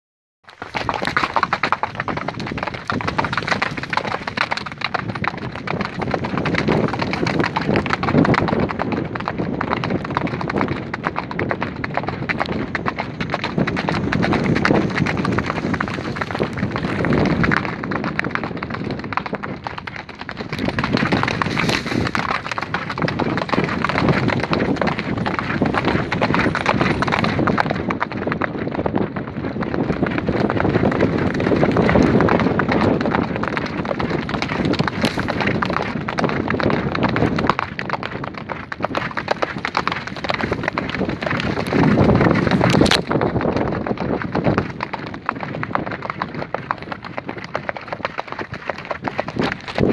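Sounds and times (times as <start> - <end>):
horse hooves galloping: 0.4 - 49.9.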